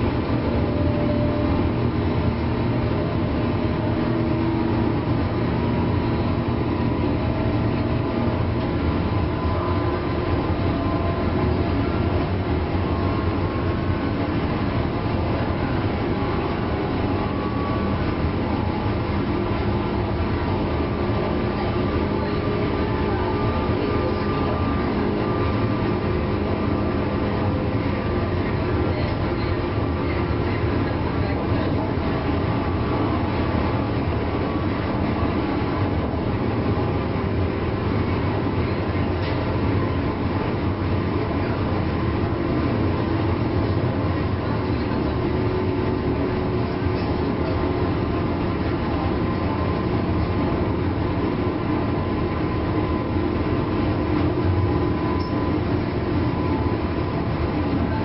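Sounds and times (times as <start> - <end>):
faint steady tones: 0.0 - 58.0
train wheel and motor noise: 0.0 - 58.0.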